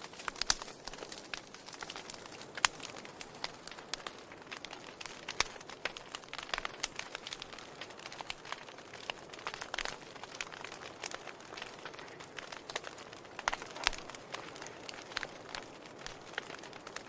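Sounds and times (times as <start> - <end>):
faint fire hiss: 0.0 - 17.0
wood fire crackling and popping: 0.0 - 17.0.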